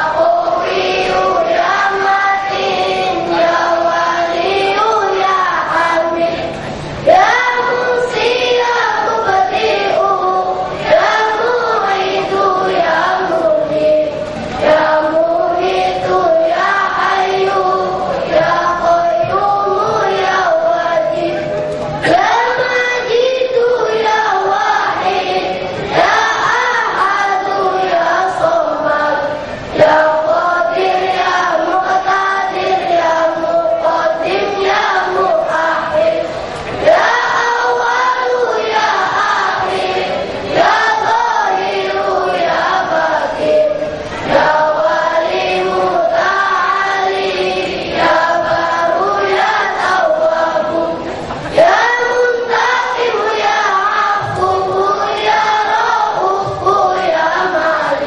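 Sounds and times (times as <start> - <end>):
boys choir singing: 0.0 - 58.0.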